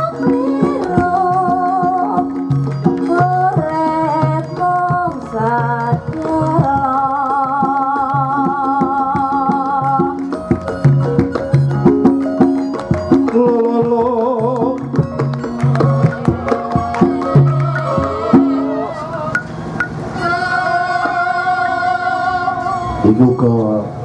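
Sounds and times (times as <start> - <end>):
woman singing wavering line: 0.0 - 11.0, 13.1 - 23.1
drum strokes: 0.0 - 22.4.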